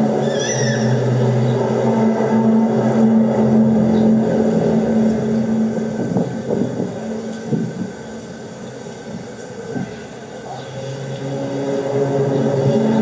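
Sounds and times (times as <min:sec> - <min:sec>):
synthesized droning tone: 0:00.0 - 0:13.0.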